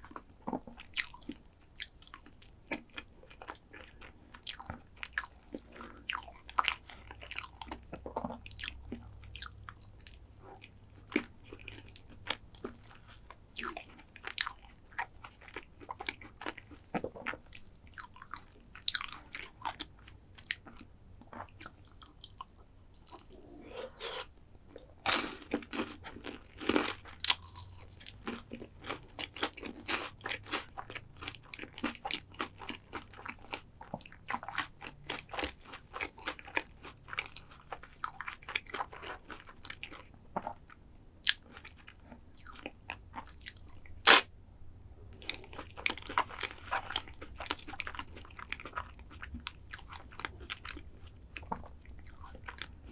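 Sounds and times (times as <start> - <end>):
crunching and wet chewing: 0.0 - 44.3, 45.1 - 52.9.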